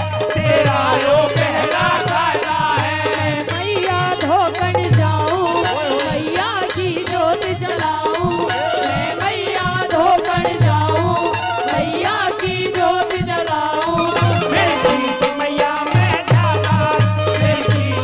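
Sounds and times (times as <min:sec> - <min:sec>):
hand drum beat: 0:00.0 - 0:18.0.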